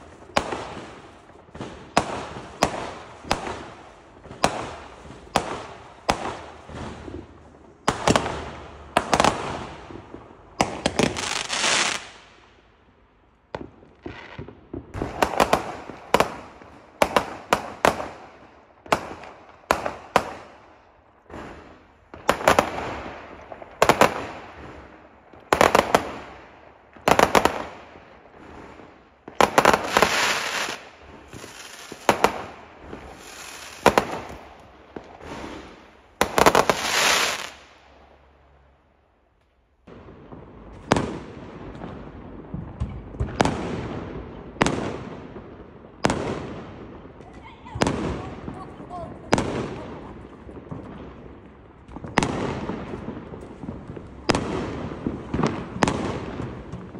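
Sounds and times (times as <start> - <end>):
fireworks bangs: 0.0 - 12.5, 13.4 - 38.3, 39.8 - 56.9
fireworks crackling: 0.0 - 38.6, 39.8 - 56.9.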